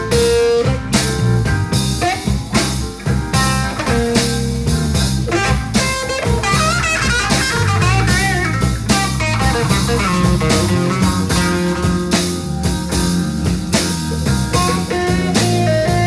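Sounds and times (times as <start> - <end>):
bass guitar: 0.0 - 16.0
drum kit: 0.0 - 16.0
electric guitar lead: 0.0 - 16.0.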